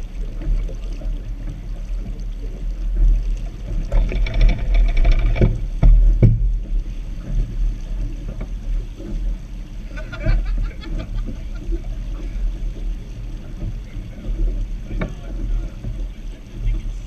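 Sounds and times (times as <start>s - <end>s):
water slapping against hull: 0.0s - 17.0s.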